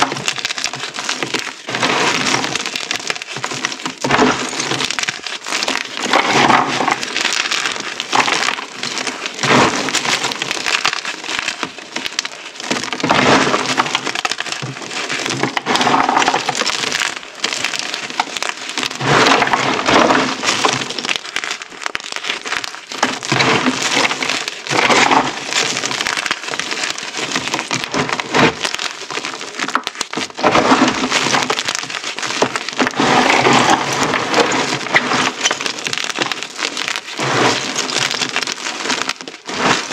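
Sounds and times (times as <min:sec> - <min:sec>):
chalk chunks crunching by hand: 0:00.0 - 0:39.9.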